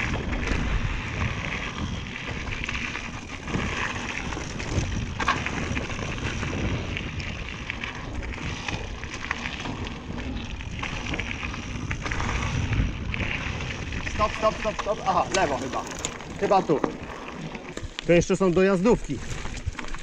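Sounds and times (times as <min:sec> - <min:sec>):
bike chain and parts rattling: 0:00.0 - 0:20.0
tyres crackling over dirt: 0:00.0 - 0:20.0
wind rumble on microphone: 0:00.0 - 0:20.0.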